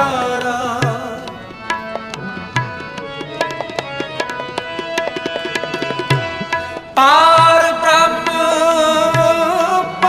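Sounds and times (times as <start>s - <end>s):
held accompanying notes: 0.0s - 10.0s
tabla playing sharp strokes: 0.0s - 10.0s.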